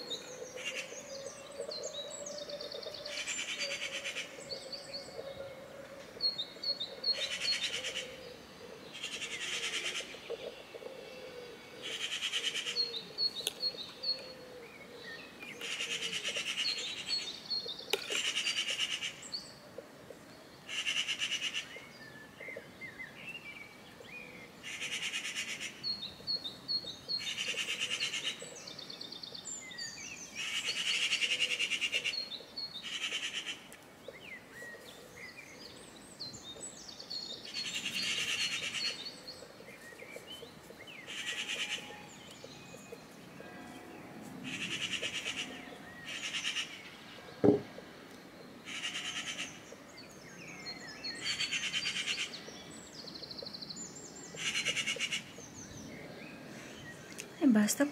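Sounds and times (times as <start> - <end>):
songbirds trilling: 0.0 - 57.9.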